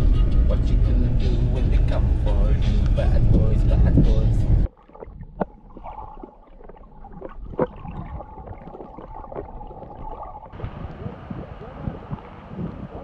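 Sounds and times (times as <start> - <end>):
muffled underwater water: 1.5 - 13.0.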